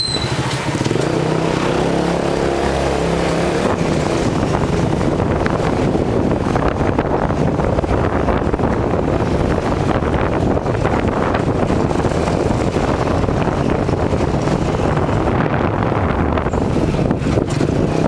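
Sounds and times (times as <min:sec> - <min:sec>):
motorcycle engine and road noise: 0:00.0 - 0:18.0
wind buffeting microphone: 0:00.3 - 0:18.0.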